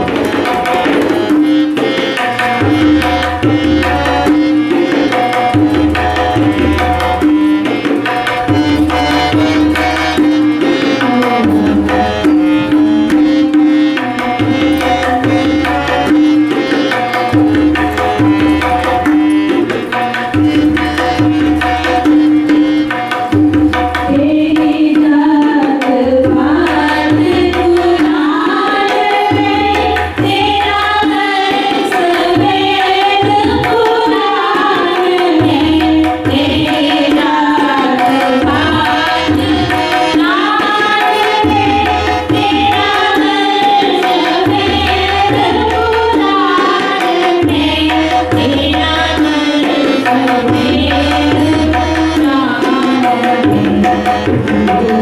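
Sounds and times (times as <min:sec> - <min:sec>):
harmonium: 0:00.0 - 0:55.0
tabla drumming: 0:00.0 - 0:55.0
women singing devotional song: 0:00.0 - 0:55.0.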